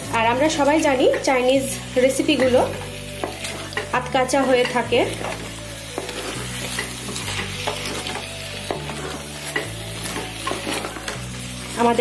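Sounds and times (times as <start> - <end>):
food sizzling in frying pan: 0.0 - 12.0
spatula scraping pan: 0.6 - 12.0.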